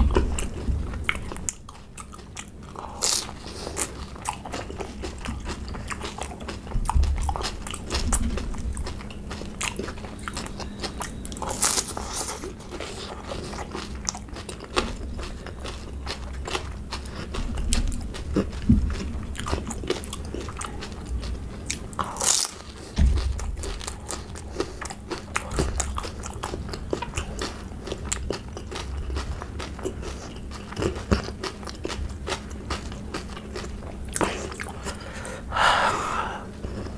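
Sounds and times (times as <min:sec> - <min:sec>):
crunching and wet chewing: 0:00.0 - 0:35.4.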